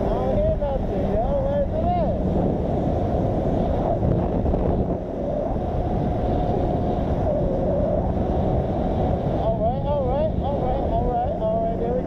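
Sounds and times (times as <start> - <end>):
motorcycle engine drone: 0.0 - 12.0
wind rushing over microphone: 0.0 - 12.0.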